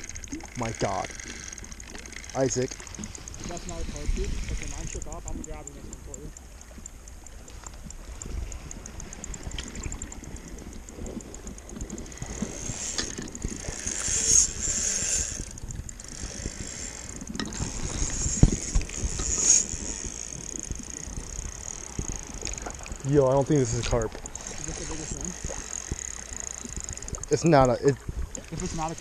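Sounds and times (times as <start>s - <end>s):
fishing reel ticking: 0.0s - 29.0s
water slapping against hull: 0.0s - 29.0s.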